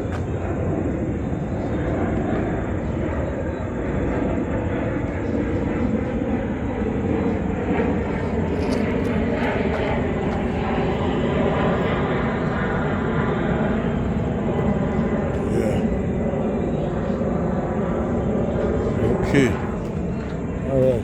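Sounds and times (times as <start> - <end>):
faint hum drifting in pitch: 0.0 - 21.0.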